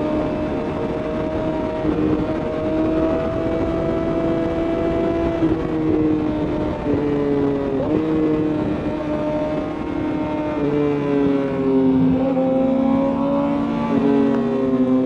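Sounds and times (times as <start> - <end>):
wind rush: 0.0 - 15.0.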